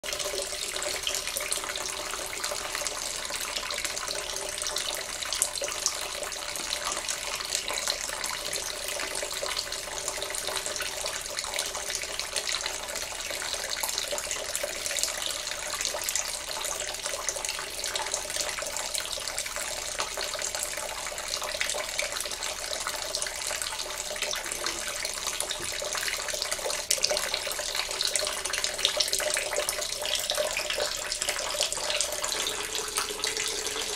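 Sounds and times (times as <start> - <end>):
liquid pouring and trickling: 0.0 - 33.9.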